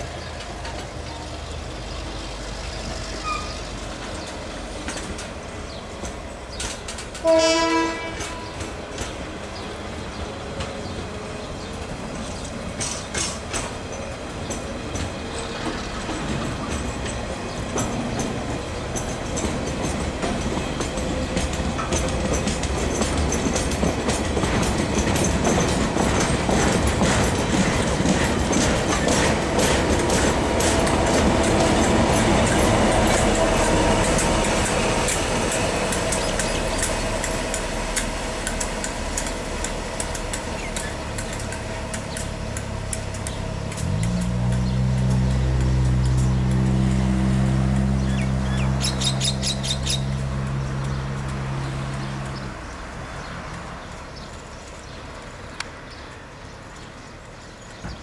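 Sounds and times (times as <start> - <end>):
diesel locomotive engine hum: 0.0 - 58.0
wheels clicking over rail joints: 0.0 - 58.0.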